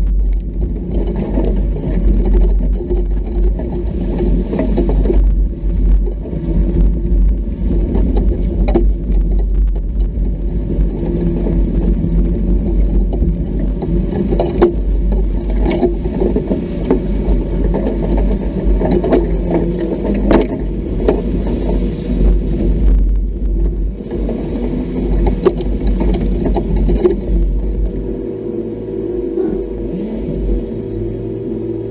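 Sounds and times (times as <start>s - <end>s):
knocks and rattles from bumps: 0.0s - 28.2s
off-road vehicle engine running: 0.0s - 31.9s.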